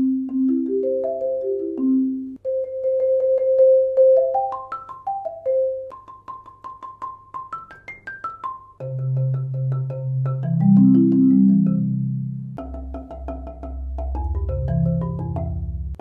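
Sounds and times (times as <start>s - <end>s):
marimba played softly: 0.0s - 16.0s.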